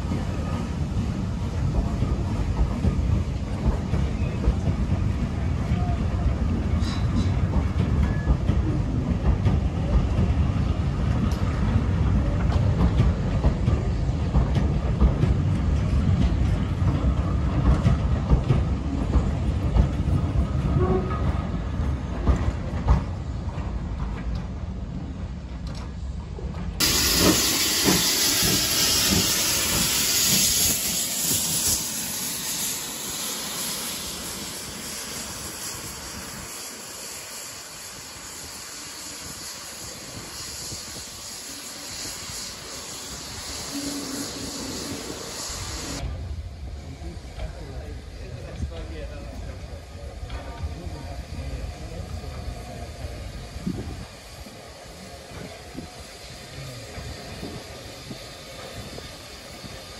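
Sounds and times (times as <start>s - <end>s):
steam locomotive hissing: 0.0s - 25.4s, 26.2s - 59.9s
train wheels rumbling on track: 0.0s - 59.9s.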